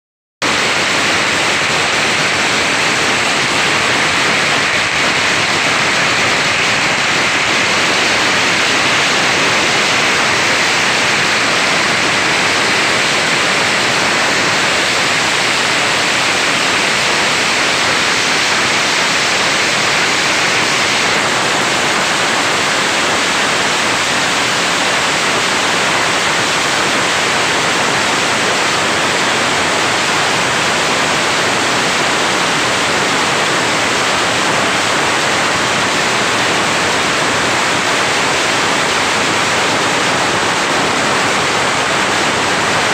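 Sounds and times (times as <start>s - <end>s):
firecrackers crackling: 0.4s - 42.9s.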